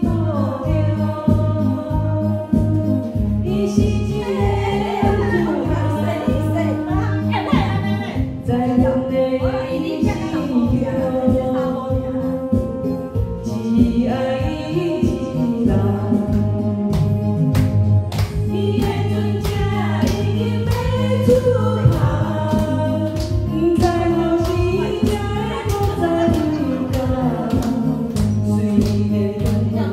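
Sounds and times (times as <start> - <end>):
person singing karaoke: 0.0 - 29.9
pop backing track: 0.0 - 29.9.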